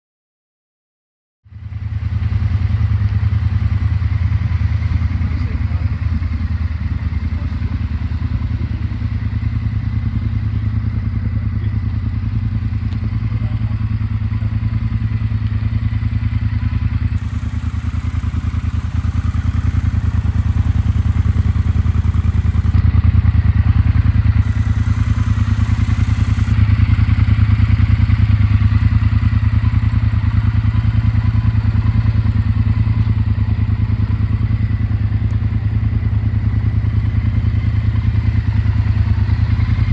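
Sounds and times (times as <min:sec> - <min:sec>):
motorcycle engine idling: 0:01.5 - 0:39.9.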